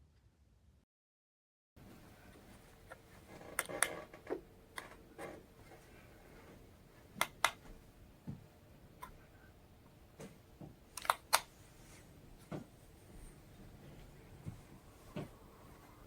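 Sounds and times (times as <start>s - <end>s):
faint steady hum: 1.8s - 16.0s.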